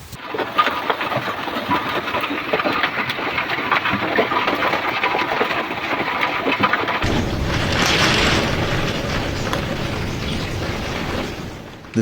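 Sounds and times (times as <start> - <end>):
wood clicking and knocking: 0.3 - 12.0.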